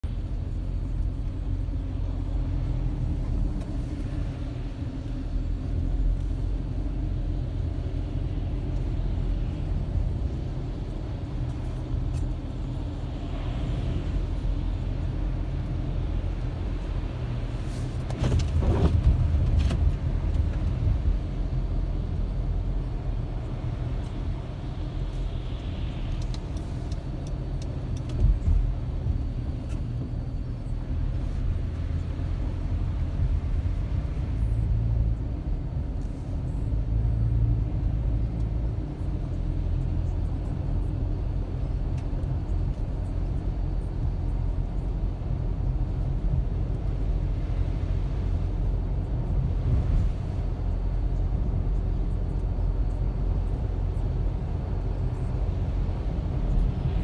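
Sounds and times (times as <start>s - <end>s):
car road rumble: 0.0s - 57.0s.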